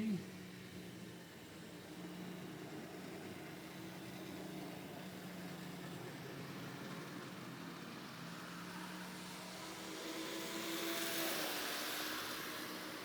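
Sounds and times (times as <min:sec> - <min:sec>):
model train motor whirring: 0:00.3 - 0:13.0.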